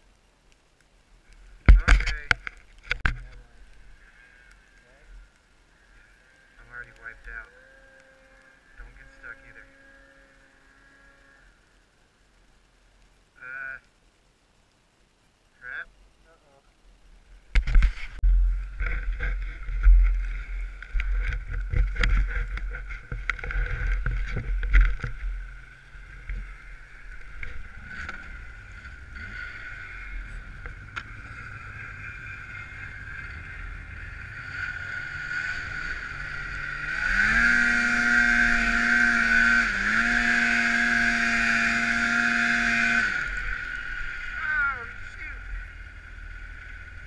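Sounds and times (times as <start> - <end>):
snowmobile engine idling and revving: 1.6 - 11.6, 17.5 - 47.0.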